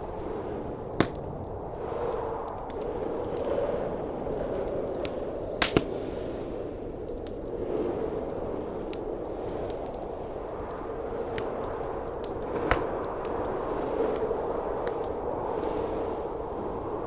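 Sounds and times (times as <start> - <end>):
blizzard wind: 0.0 - 17.0
wood fire crackling: 0.0 - 17.0.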